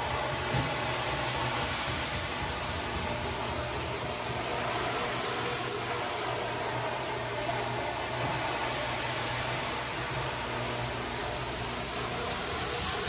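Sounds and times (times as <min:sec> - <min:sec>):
floor scrubber motor hum: 0:00.0 - 0:13.0.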